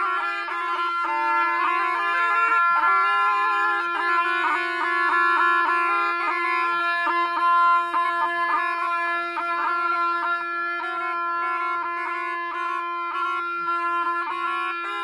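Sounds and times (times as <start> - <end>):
oboe ornamented melody: 0.0 - 15.0.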